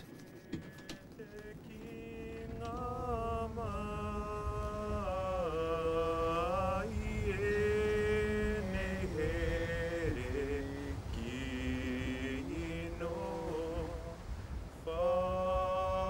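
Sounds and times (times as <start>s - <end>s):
person singing slow chant: 0.3s - 16.0s.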